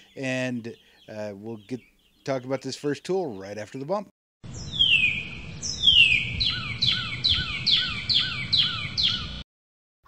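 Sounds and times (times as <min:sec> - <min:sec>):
bird singing: 0:00.0 - 0:03.9, 0:04.5 - 0:09.4.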